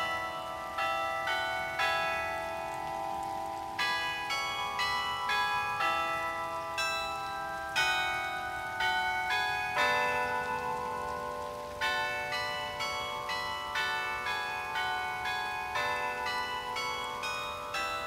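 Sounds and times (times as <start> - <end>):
clock bells chiming a tune: 0.0 - 18.0
steady falling rain: 0.0 - 18.0.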